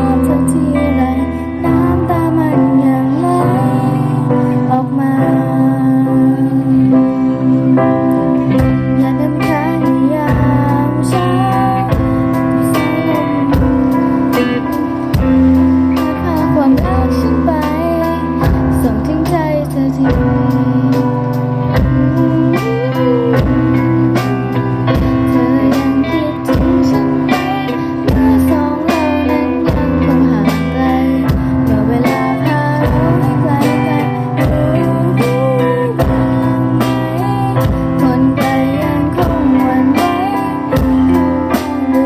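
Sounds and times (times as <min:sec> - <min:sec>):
guitar: 0:00.0 - 0:42.0
pitch-bending melody line: 0:00.0 - 0:42.0.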